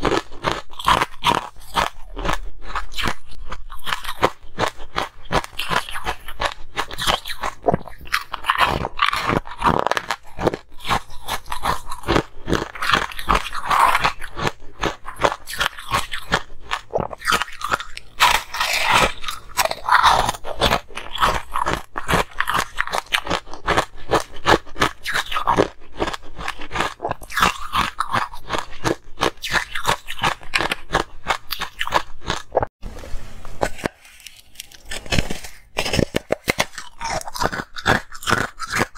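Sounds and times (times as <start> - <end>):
ice cubes crunching: 0.0 - 32.7, 33.6 - 38.9.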